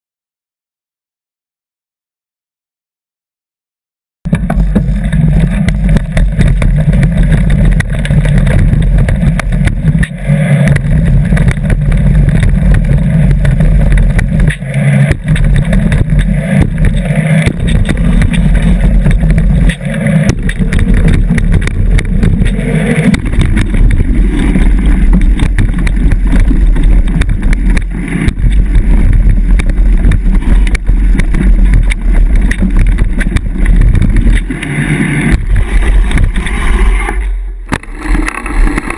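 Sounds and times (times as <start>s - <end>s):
bike rattling and knocking: 4.3s - 36.9s, 37.6s - 38.9s
mountain bike rumbling on trail: 4.3s - 38.9s.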